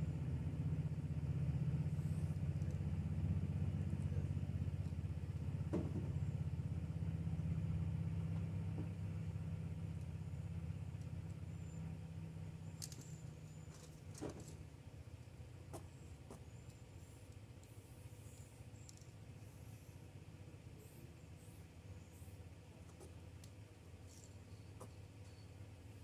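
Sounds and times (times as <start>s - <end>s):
engine rumble idling: 0.0s - 26.0s.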